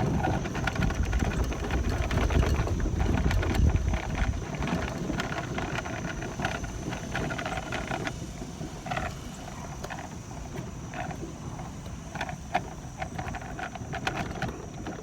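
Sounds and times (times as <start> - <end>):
golf cart rumble: 0.0 - 15.0
wind on microphone: 0.0 - 15.0.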